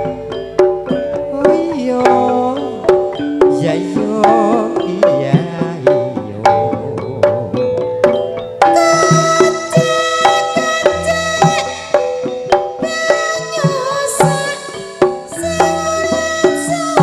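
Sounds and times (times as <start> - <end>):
band music: 0.0 - 17.0
hand drum strokes: 0.0 - 17.0.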